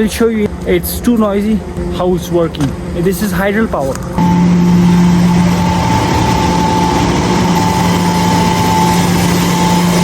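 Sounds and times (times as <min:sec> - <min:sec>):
turbine and generator humming: 0:00.0 - 0:10.0.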